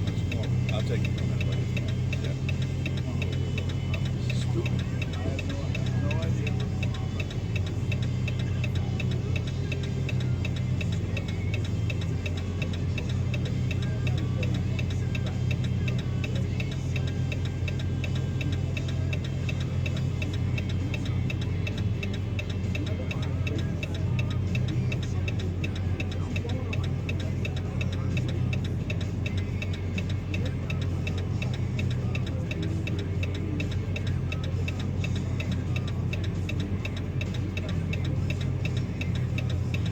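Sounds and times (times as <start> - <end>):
car engine idling: 0.0 - 39.9
fast regular ticking: 0.0 - 39.9.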